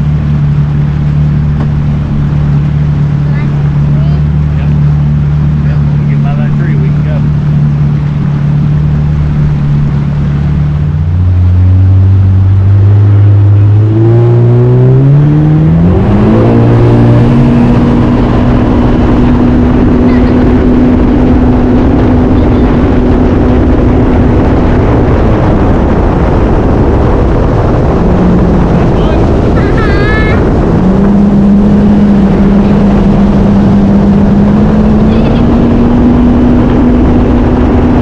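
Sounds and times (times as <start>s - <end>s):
personal watercraft engine accelerating: 0.0s - 38.0s.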